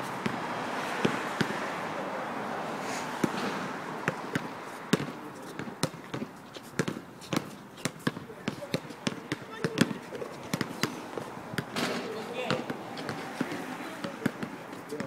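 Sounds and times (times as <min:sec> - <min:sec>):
basketball bouncing on asphalt: 0:00.1 - 0:01.6, 0:03.2 - 0:15.0.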